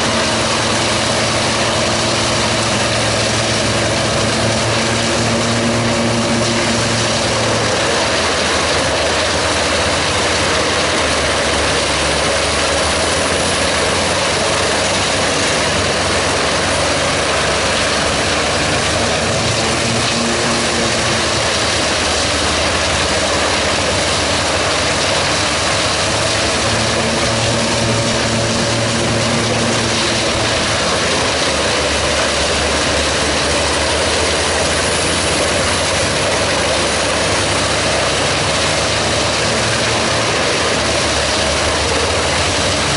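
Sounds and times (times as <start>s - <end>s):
wood chipper chipping logs: 0.0s - 42.9s.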